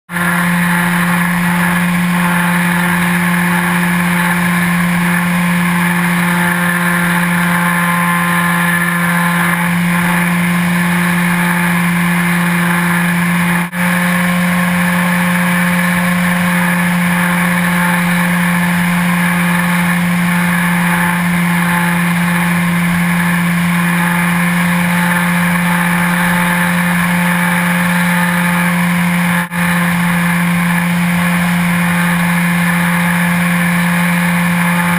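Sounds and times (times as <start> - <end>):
model plane motor droning: 0.1 - 34.9.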